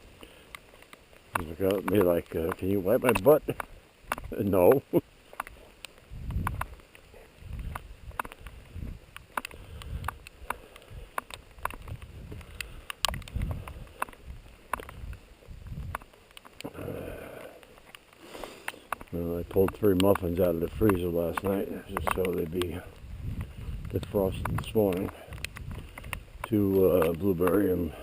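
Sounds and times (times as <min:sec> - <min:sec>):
footsteps walking: 0:00.0 - 0:28.0
sharp ticks: 0:00.2 - 0:28.0.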